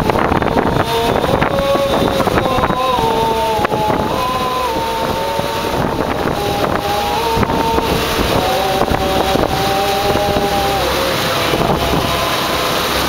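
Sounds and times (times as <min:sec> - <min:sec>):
boat motor: 0:00.0 - 0:13.0
wind buffeting microphone: 0:00.0 - 0:13.0
men singing a hymn: 0:00.2 - 0:13.0.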